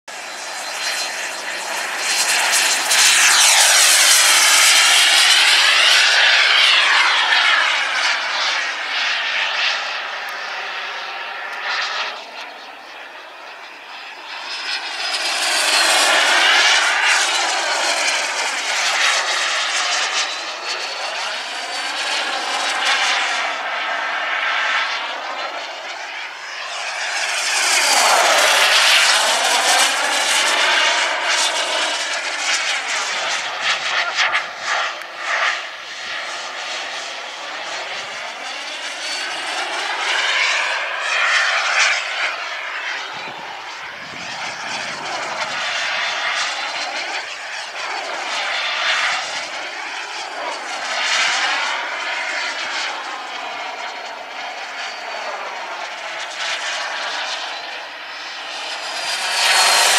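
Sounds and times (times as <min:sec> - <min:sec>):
high-pitched jet turbine: 0:00.1 - 0:59.9.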